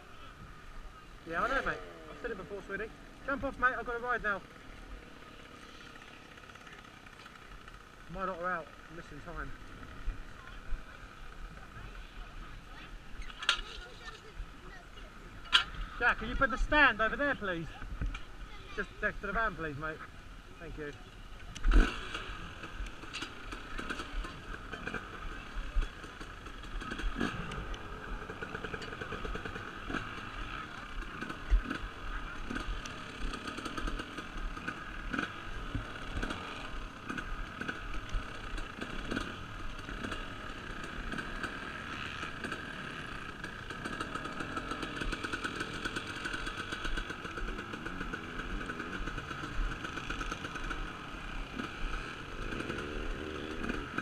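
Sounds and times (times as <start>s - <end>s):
motocross bike engine running: 0.0s - 54.0s.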